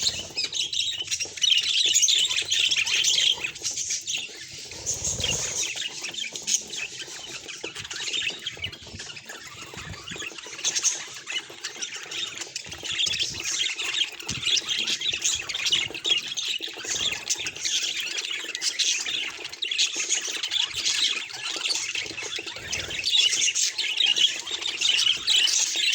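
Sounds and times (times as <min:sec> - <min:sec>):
budgerigars chattering: 0:00.0 - 0:25.9.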